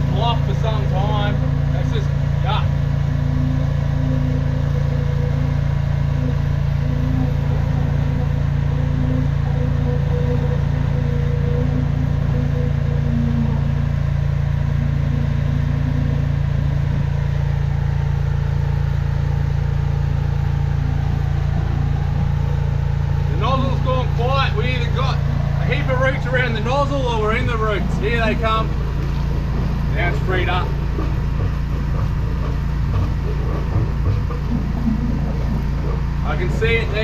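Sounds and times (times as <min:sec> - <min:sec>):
drain jetter engine and pump: 0:00.0 - 0:37.0
faint wavering tone: 0:00.0 - 0:37.0.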